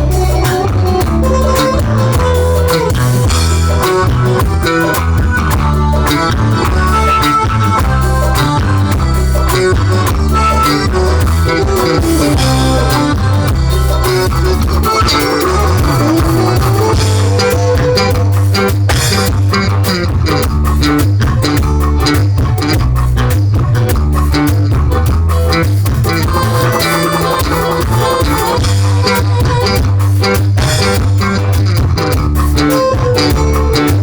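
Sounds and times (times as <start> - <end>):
bass line: 0.0 - 34.0
drum beat: 0.0 - 34.0
guitar: 0.0 - 34.0.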